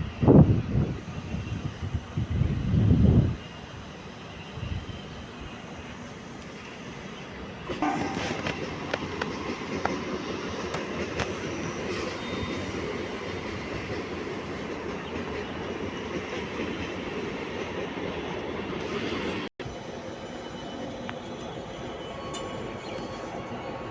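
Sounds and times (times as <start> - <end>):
train rumbling on rails: 0.0 - 23.9.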